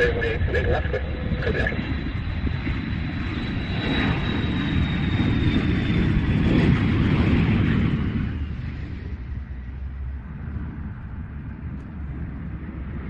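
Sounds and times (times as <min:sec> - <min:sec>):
high-pitched whine: 0:00.0 - 0:11.0
aircraft engine running: 0:00.0 - 0:13.0.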